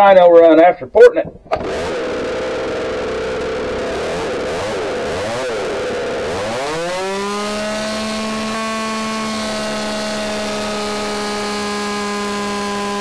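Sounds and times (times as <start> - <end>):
chainsaw engine revving: 1.5 - 13.0.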